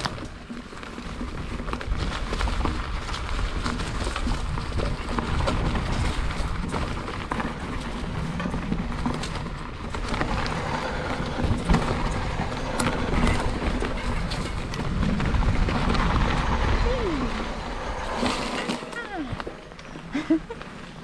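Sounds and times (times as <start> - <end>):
bike rattling over bumps: 0.0 - 21.0
tyres crunching on dirt: 0.0 - 21.0.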